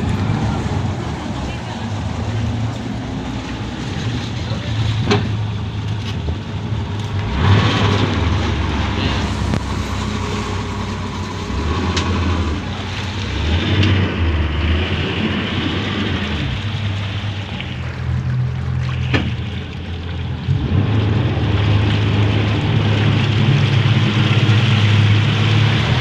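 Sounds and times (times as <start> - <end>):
boat engine humming: 0.0 - 26.0
water noise: 0.0 - 26.0.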